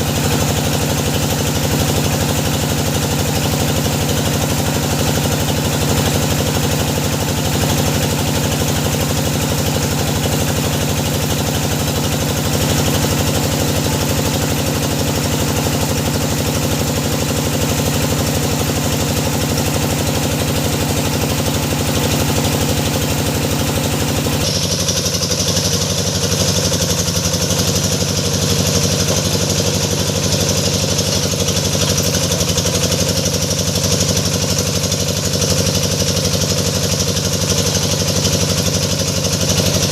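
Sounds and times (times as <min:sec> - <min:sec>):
drilling rig engine running: 0:00.0 - 0:39.9.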